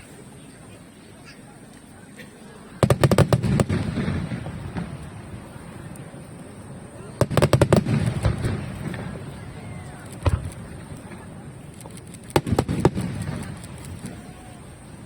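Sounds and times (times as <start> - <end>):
fireworks bursting: 2.7 - 15.0.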